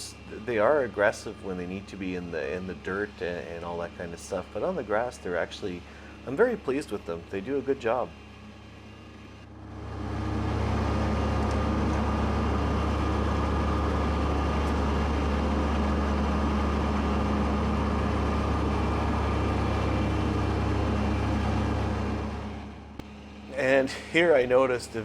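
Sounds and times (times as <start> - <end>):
faint steady whine: 0.0 - 25.0
tractor diesel engine mowing grass: 0.0 - 25.0.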